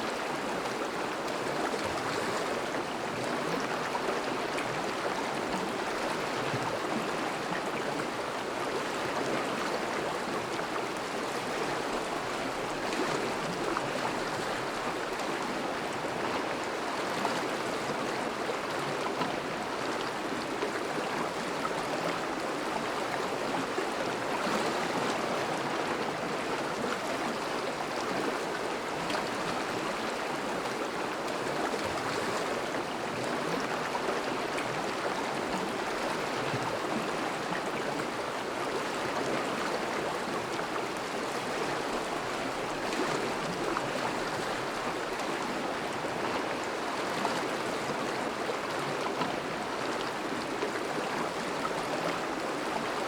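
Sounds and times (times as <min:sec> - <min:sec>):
river rushing over shallows: 0:00.0 - 0:53.0.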